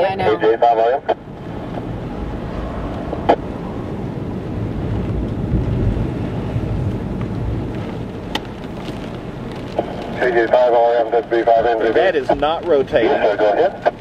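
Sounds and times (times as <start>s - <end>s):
storm wind on microphone: 0.0s - 14.0s.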